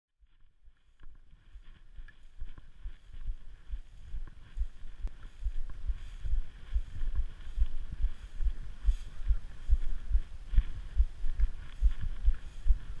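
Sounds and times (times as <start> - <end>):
footsteps in dry grass: 0.2 - 13.0
grass rustling: 0.3 - 13.0
wind on the microphone: 0.6 - 13.0.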